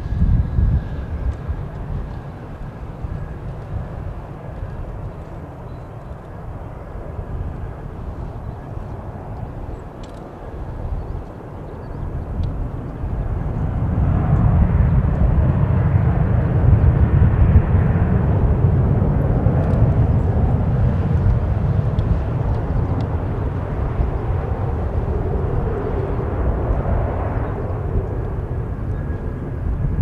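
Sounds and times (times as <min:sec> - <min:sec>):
jet engines rumbling: 0:00.0 - 0:30.0
wind buffeting microphone: 0:00.0 - 0:30.0.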